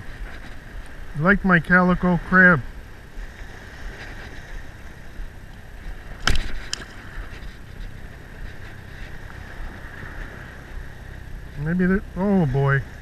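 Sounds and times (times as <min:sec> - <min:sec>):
water lapping: 0:00.0 - 0:13.0
wind: 0:00.0 - 0:13.0.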